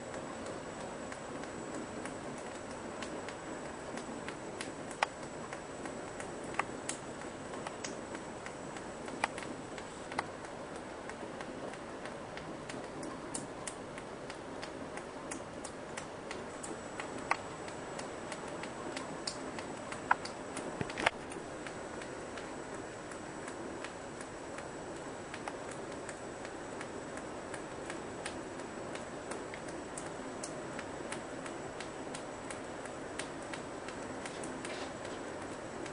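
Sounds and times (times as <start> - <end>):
rain hissing: 0.0 - 35.9.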